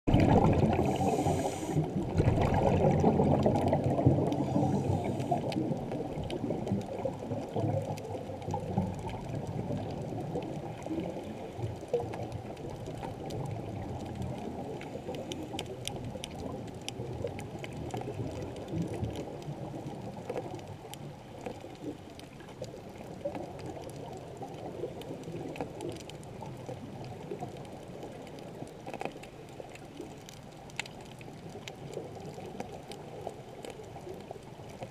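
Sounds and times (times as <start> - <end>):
muffled underwater rushing water: 0.1 - 34.9
faint clicks: 0.8 - 34.9.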